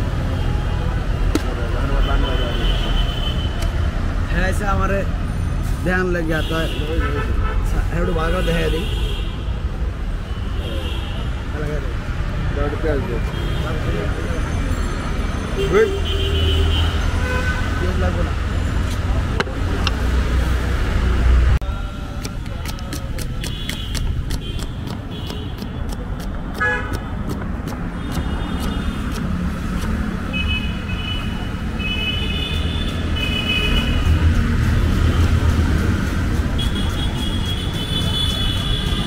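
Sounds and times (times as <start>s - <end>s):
street traffic rumbling: 0.0s - 39.0s.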